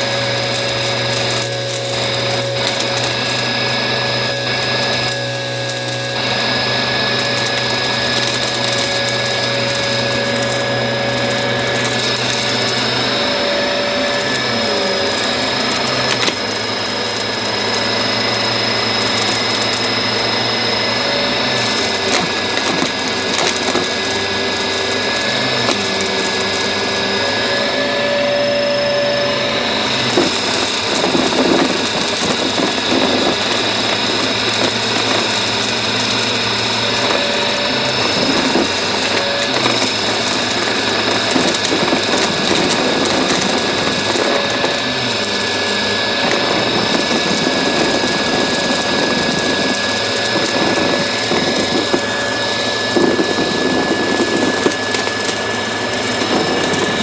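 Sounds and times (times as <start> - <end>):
debris clicks and crackles: 0.0 - 13.3, 14.0 - 20.3, 21.4 - 27.6, 29.8 - 57.0
upright vacuum cleaner running: 0.0 - 57.0.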